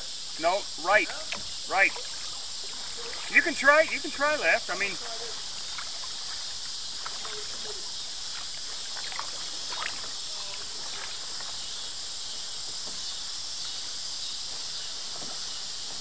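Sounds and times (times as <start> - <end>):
paddle splashing in river water: 0.0 - 16.0
steady high hiss: 0.0 - 16.0.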